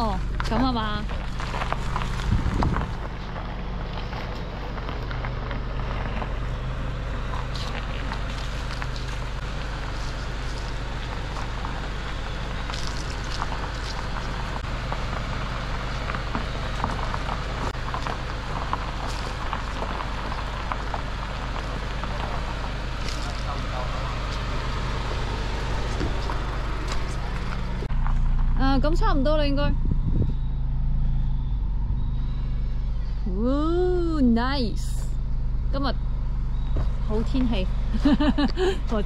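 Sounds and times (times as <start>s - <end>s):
car engine running low speed: 0.0s - 39.0s.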